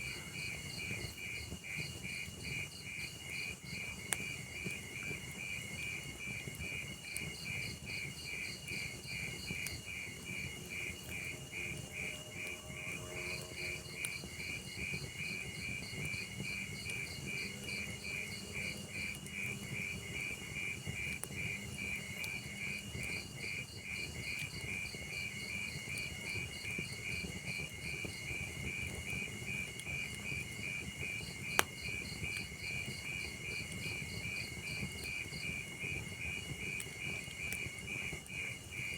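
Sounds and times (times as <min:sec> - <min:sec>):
crickets chirping: 0:00.0 - 0:38.9
wood fire crackling: 0:00.0 - 0:38.9.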